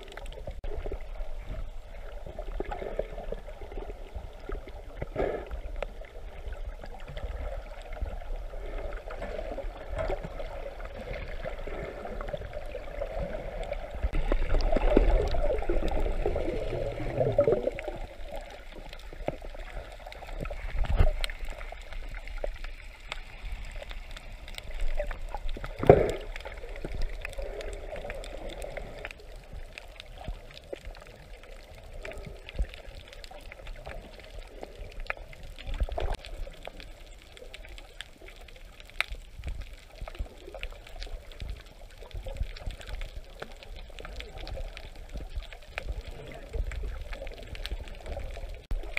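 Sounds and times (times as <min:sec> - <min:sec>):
muffled water sloshing underwater: 0:00.0 - 0:48.9
underwater bubbling: 0:00.0 - 0:48.9.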